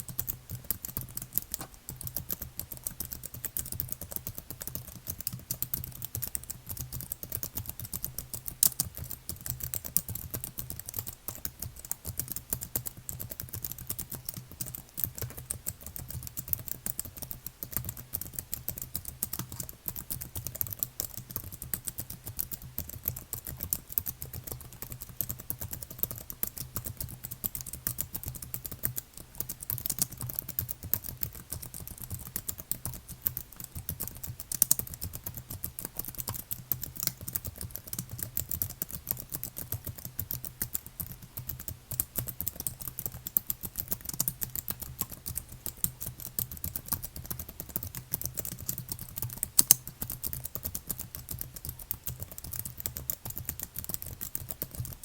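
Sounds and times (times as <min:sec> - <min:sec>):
typing on a computer keyboard: 0:00.0 - 0:55.0.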